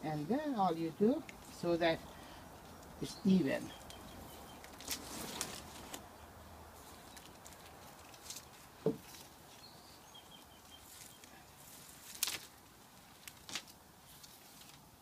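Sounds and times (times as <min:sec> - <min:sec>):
hands rustling potting soil: 0:00.0 - 0:15.0.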